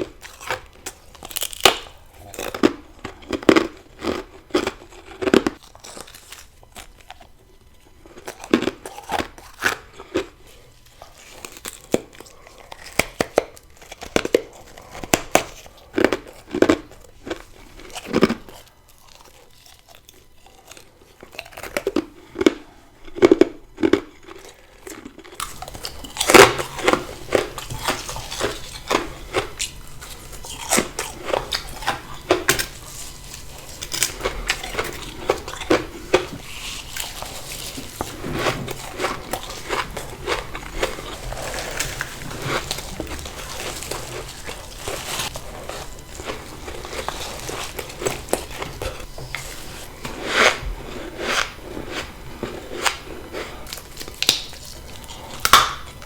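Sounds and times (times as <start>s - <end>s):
ice crunching while chewed: 0.0s - 56.0s.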